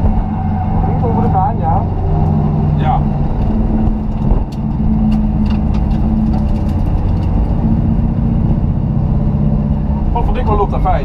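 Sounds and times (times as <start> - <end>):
race car engine running: 0.0 - 11.0
road noise: 0.0 - 11.0.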